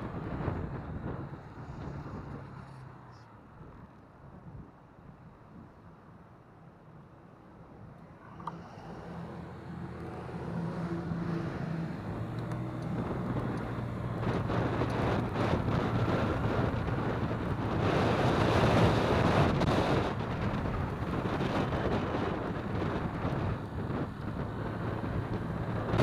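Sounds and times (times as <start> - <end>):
wind rushing over microphone: 0.0 - 5.8, 8.2 - 26.0
low engine hum: 0.0 - 26.0.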